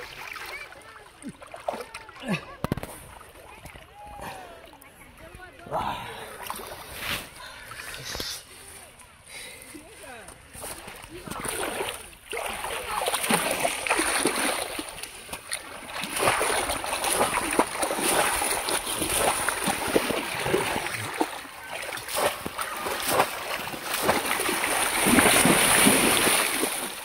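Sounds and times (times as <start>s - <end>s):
river water splashing: 0.0s - 7.8s, 8.5s - 27.0s.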